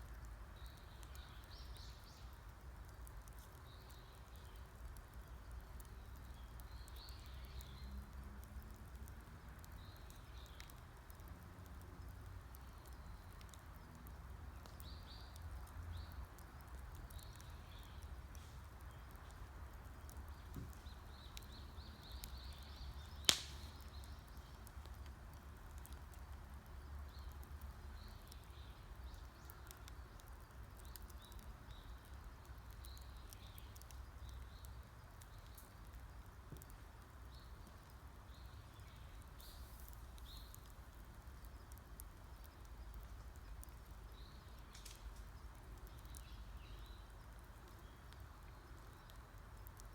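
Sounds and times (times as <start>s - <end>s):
campfire crackling and popping: 0.0s - 49.9s
small birds chirping: 0.0s - 49.9s.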